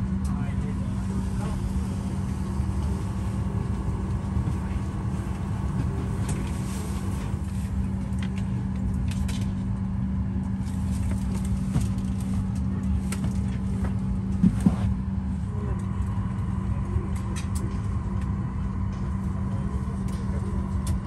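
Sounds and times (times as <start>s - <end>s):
cabin air conditioning drone: 0.0s - 21.0s.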